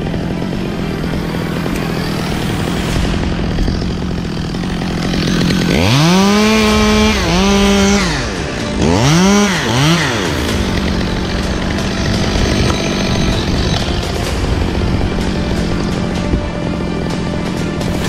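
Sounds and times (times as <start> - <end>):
chainsaw running and revving: 0.0 - 18.0.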